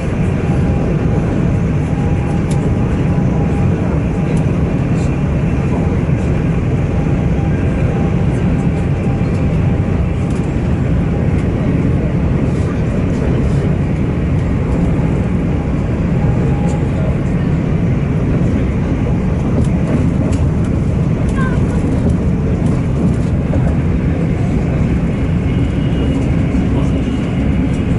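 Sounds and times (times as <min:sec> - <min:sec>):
train rumble: 0:00.0 - 0:27.9.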